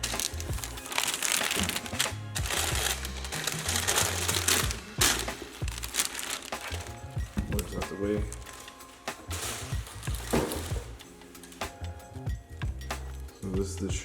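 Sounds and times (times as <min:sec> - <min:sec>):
music with heavy bass line: 0:00.0 - 0:08.6, 0:09.3 - 0:13.3
wrapping crinkling: 0:00.0 - 0:11.8.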